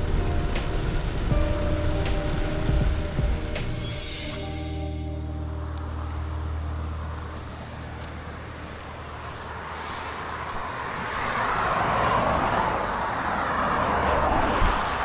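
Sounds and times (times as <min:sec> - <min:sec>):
tyres on wet road: 0:00.0 - 0:15.0.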